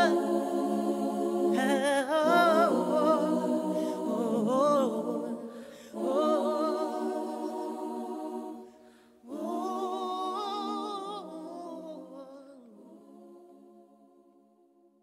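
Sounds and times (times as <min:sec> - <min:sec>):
music with singing voices: 0:00.0 - 0:14.1.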